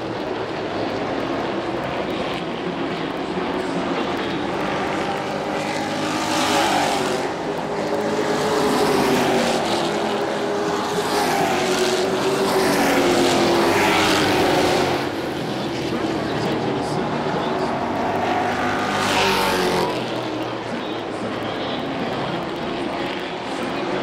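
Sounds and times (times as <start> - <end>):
race truck engines passing: 0.0 - 24.0.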